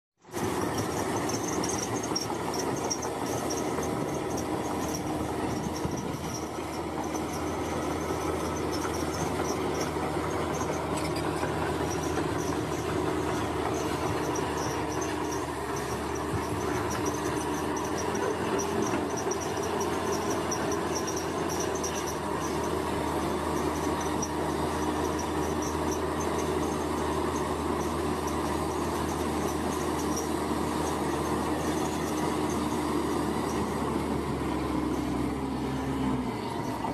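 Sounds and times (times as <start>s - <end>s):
heavy machine engine running: 0.2s - 36.9s.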